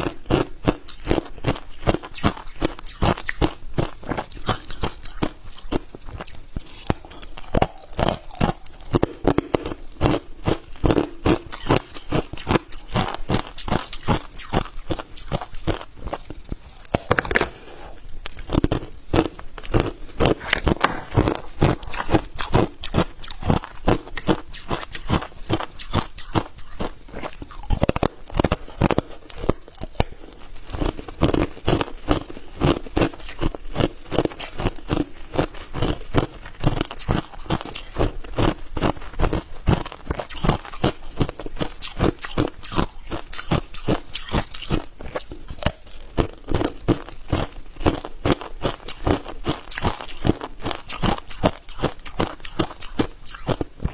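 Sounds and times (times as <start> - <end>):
ice cubes crunching in mouth: 0.0 - 53.9.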